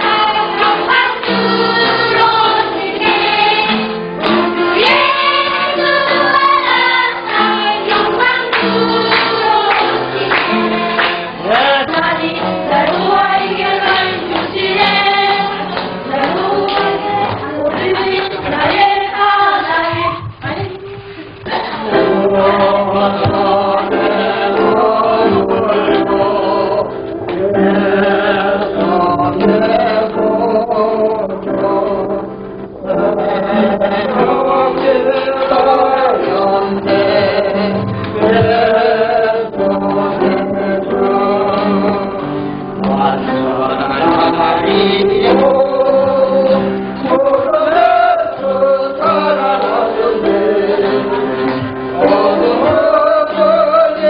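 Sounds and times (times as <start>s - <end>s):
choir singing a hymn: 0.0s - 20.6s, 21.4s - 54.0s
instrumental accompaniment: 0.0s - 54.0s.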